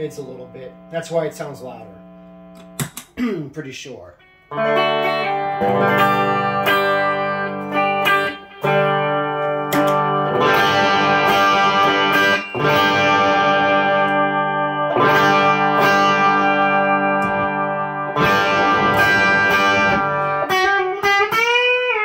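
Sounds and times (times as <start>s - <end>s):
distorted electric guitar chords: 0.0s - 3.2s, 4.2s - 22.0s.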